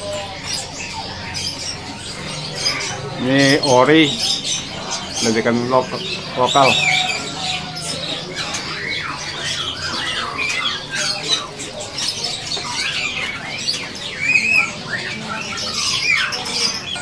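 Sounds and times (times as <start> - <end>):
songbirds chirping chorus: 0.0 - 17.0.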